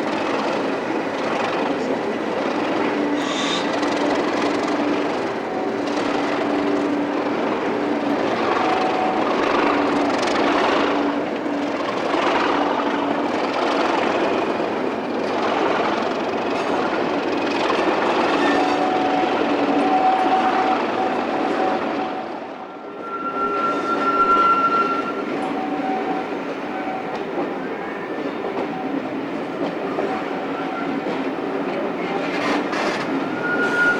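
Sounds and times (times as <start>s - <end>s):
diesel train passing: 0.0s - 33.9s
steady train tones: 0.0s - 33.9s.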